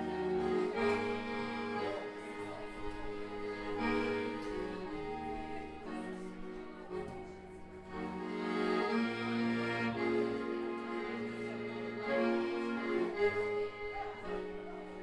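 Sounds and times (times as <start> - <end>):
accordion playing held chords: 0.0 - 15.0.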